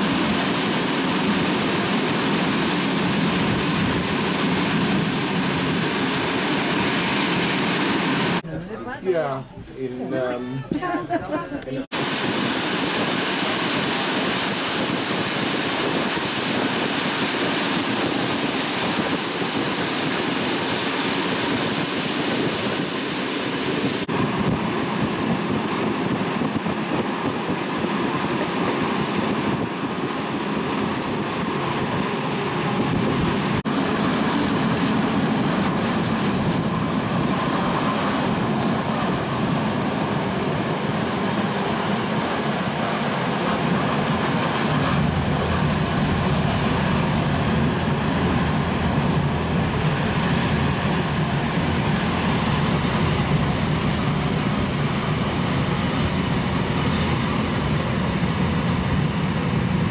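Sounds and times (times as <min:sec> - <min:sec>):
train wheels rumbling: 0:00.0 - 0:08.5, 0:11.9 - 0:59.9.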